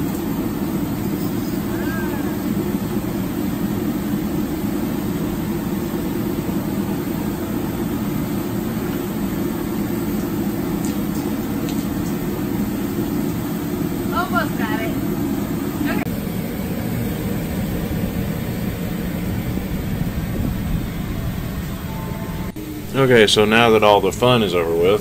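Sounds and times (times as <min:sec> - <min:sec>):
steady low rumbling: 0:00.0 - 0:25.0.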